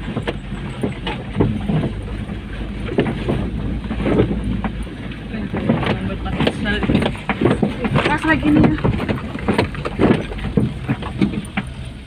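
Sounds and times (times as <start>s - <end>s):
knocks and rattles: 0.0s - 12.0s
vehicle engine running: 0.0s - 12.0s.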